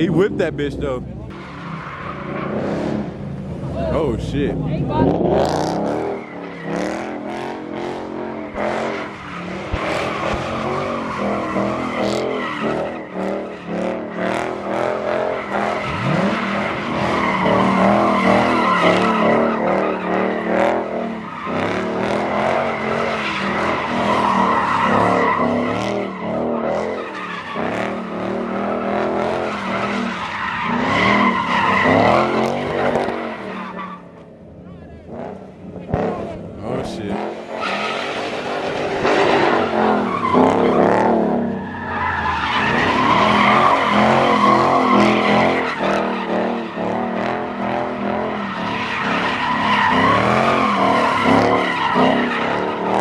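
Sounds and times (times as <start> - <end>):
car engine revving: 0.0 - 53.0
tires squealing and skidding: 0.0 - 53.0.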